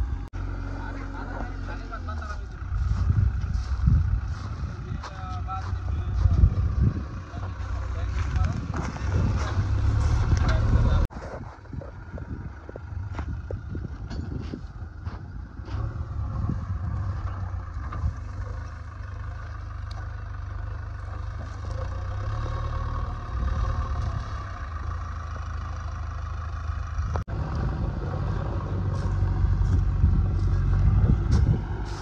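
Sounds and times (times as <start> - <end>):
backhoe diesel engine: 0.0 - 32.0.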